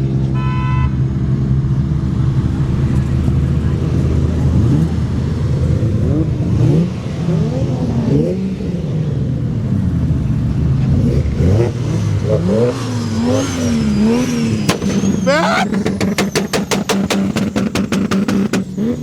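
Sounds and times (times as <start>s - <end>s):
car engines revving: 1.0s - 19.0s.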